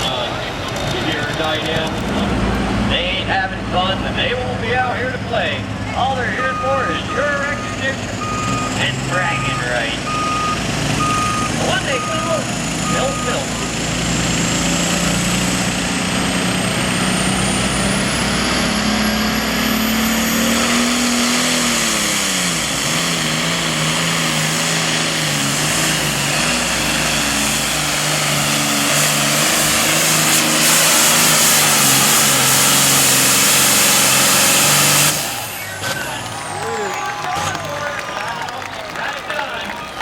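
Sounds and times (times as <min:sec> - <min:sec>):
tractor diesel engine running hard: 0:00.0 - 0:40.0.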